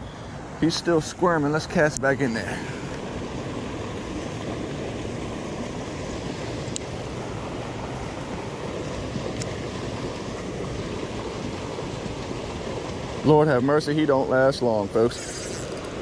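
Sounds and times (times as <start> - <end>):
water rushing from pipe: 0.0 - 16.0.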